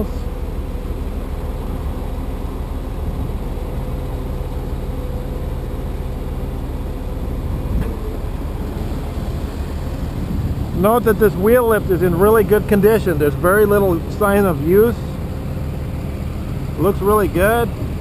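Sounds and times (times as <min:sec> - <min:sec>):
diesel engine droning: 0:00.0 - 0:18.0
hydraulics low tone: 0:00.0 - 0:18.0.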